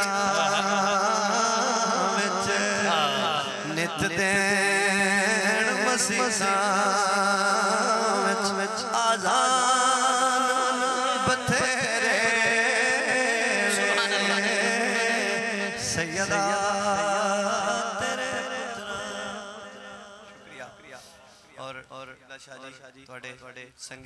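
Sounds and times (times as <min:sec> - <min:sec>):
man singing through microphone: 0:00.0 - 0:22.8.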